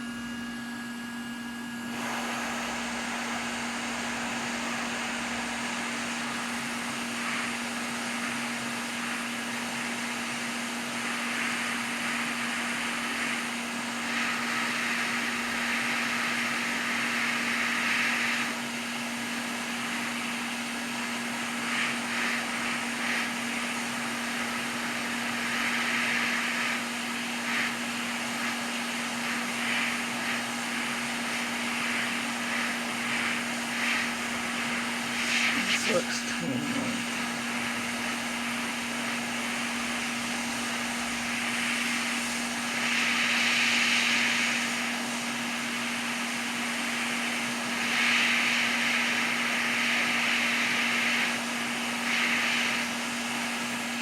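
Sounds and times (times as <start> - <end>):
hot air blowing: 1.7 - 54.0.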